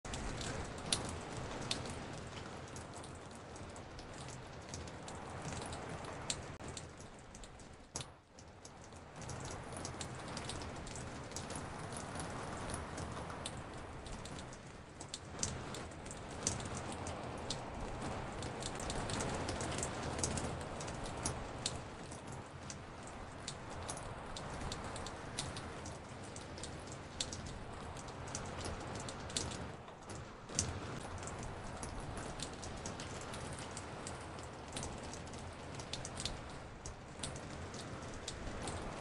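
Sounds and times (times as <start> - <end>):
raindrops dripping on a porch: 0.0 - 39.0.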